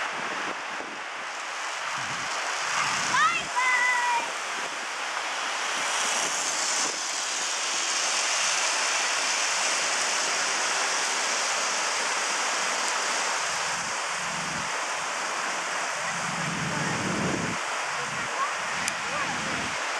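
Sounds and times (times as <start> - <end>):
river rushing over rocks: 0.0 - 19.9.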